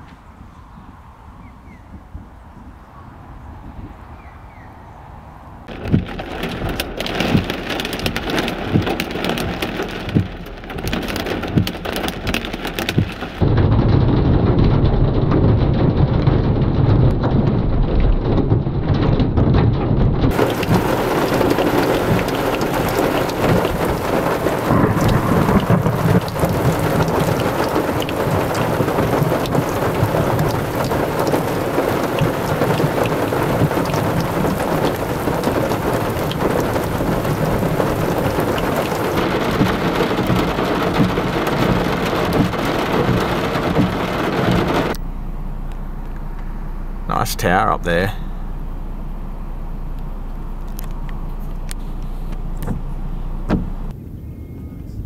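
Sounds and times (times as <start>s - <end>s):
thunder rumbling: 5.2s - 55.0s
heavy rain on a car: 5.6s - 53.9s.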